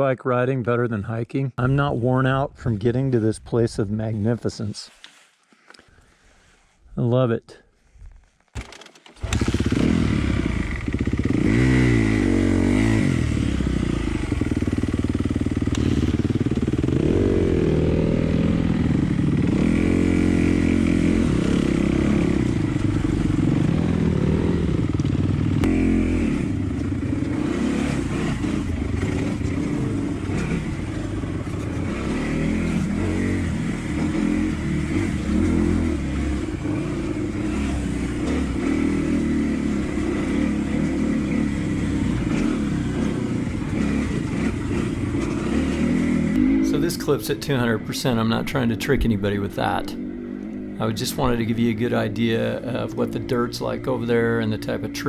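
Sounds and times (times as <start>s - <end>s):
dirt bike engine revving: 8.6s - 55.0s.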